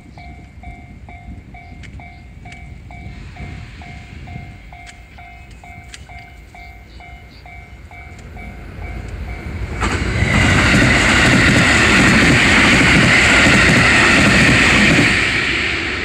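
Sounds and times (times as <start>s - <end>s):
electric train passing: 0.0s - 16.0s.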